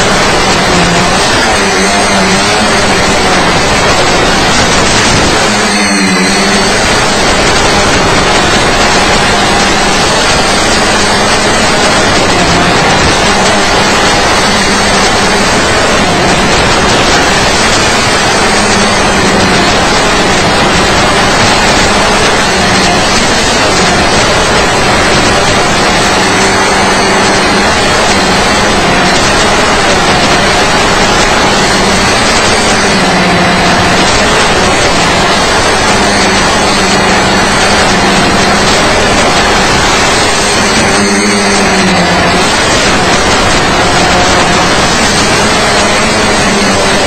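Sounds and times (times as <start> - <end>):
loud static hiss: 0.0 - 47.0.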